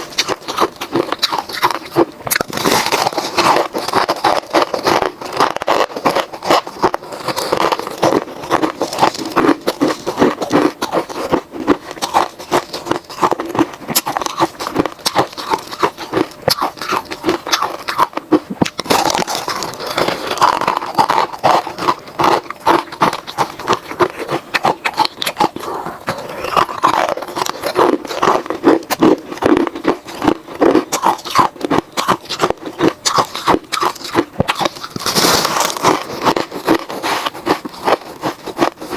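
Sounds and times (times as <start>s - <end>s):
ice cubes being chewed: 0.0s - 38.9s.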